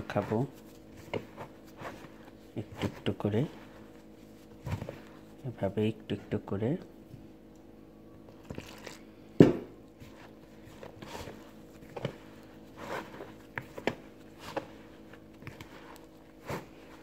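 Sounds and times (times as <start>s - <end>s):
hand mixing dough in bowl: 0.0s - 7.1s, 9.8s - 17.0s.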